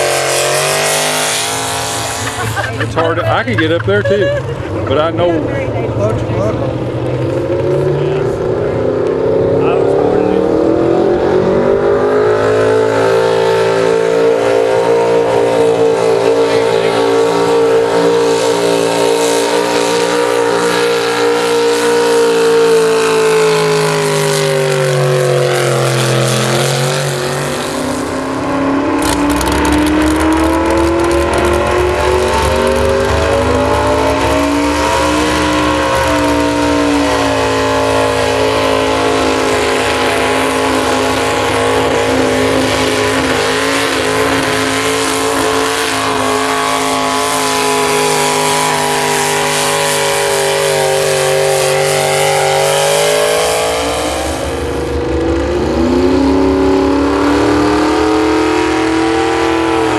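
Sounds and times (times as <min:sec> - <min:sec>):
deep rumble: 0:00.0 - 0:49.4, 0:50.0 - 0:59.9
truck engine at high revs: 0:00.0 - 0:59.9.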